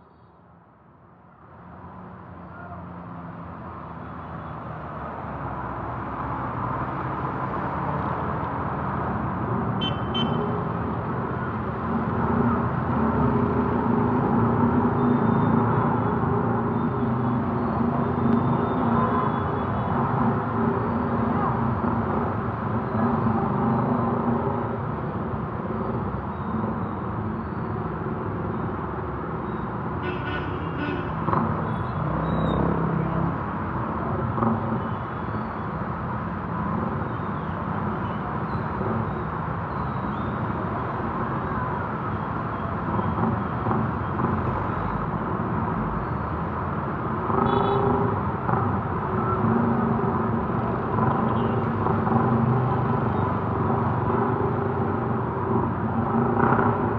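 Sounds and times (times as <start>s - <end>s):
vehicle engines running: 1.9s - 56.9s.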